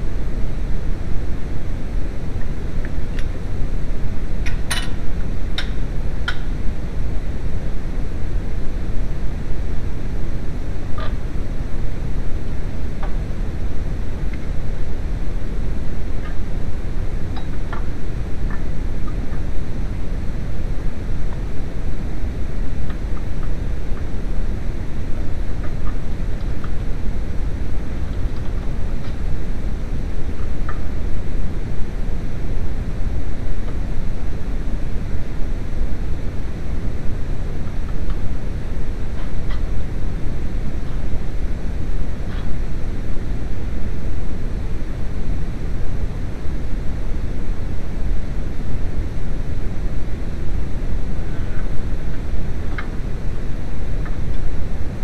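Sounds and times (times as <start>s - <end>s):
low rumbling noise: 0.0s - 55.0s.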